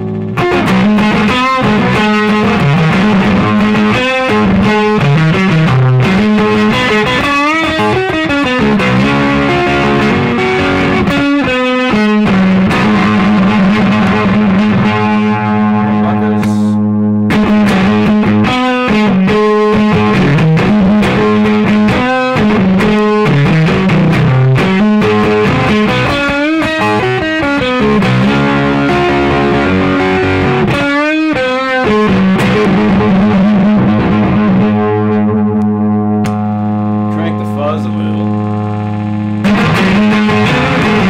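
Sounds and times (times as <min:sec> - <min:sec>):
fuzz-distorted electric guitar: 0:00.0 - 0:41.0.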